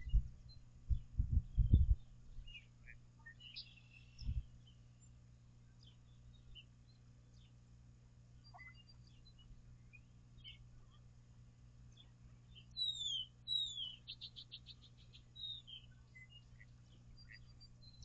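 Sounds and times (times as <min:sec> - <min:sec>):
birds chirping: 0:00.0 - 0:07.6, 0:08.4 - 0:11.0, 0:11.9 - 0:18.0
steady low hum: 0:00.0 - 0:18.0.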